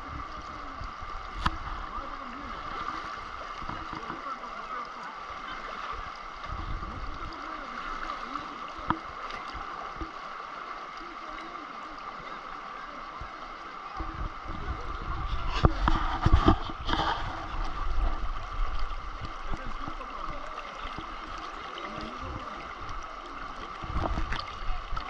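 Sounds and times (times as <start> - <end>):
river water running over stones: 0.0 - 25.0.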